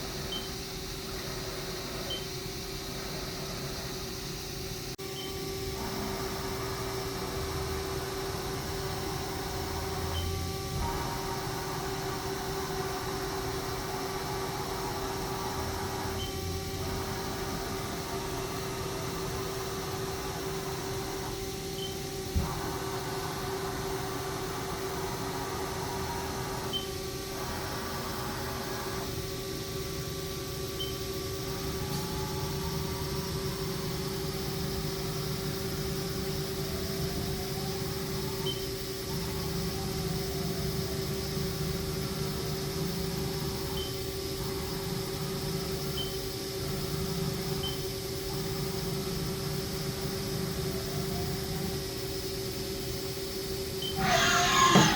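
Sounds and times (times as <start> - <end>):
lathe humming with gliding tone: 0.0 - 54.9.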